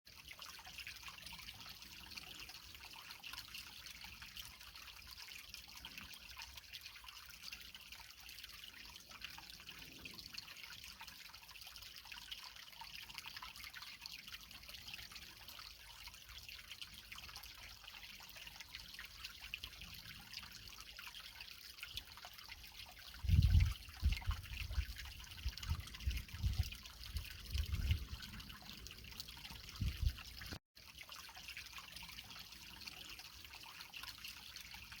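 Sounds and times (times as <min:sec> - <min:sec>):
creek water trickling over rocks: 0:00.1 - 0:35.0.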